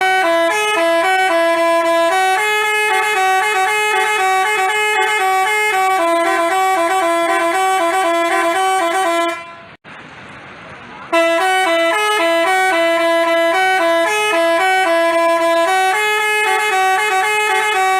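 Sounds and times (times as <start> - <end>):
multi-tone bus horn tune: 0.0 - 9.8, 11.1 - 17.9.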